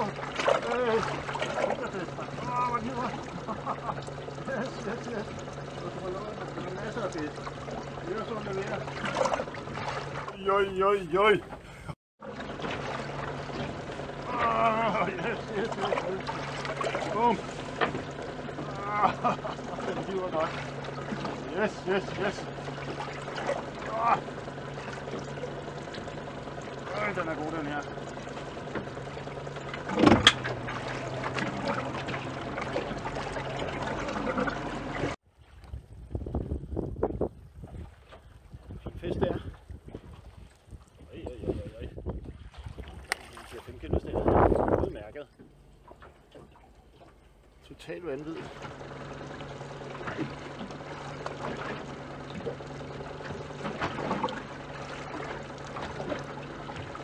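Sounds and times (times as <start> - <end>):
steady low hum: 0.0 - 57.0
water splashing against hull: 0.0 - 57.0.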